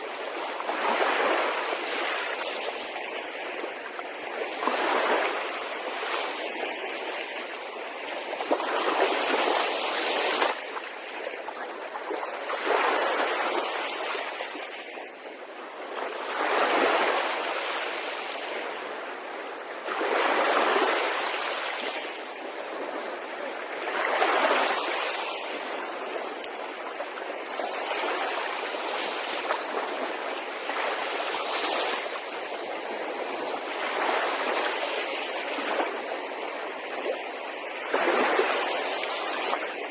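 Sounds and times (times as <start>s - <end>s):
small waves washing onto shore: 0.0s - 39.9s.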